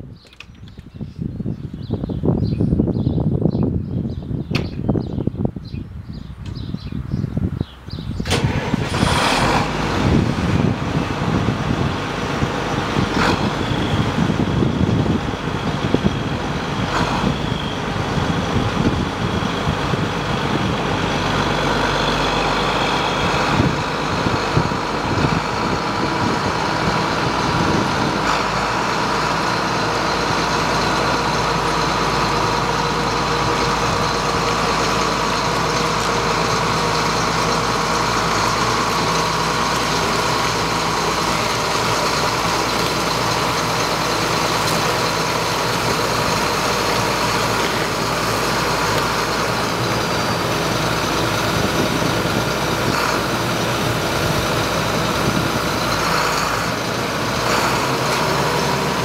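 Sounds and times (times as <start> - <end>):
tractor diesel engine idling: 8.0 - 59.0.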